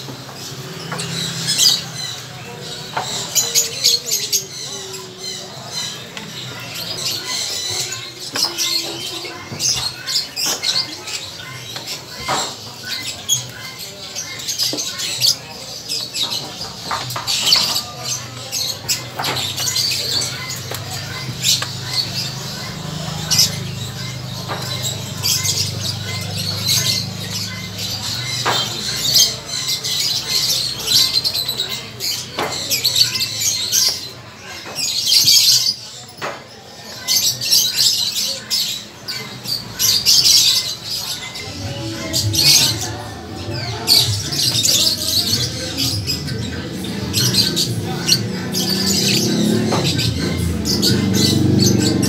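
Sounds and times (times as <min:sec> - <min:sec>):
small birds chirping and twittering: 0:00.0 - 0:52.0.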